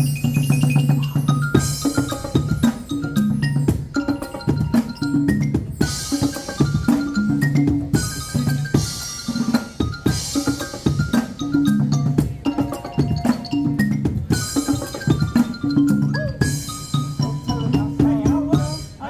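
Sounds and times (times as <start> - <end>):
pitched mallet-like notes: 0.0 - 19.0
steady drum beat: 0.0 - 19.0.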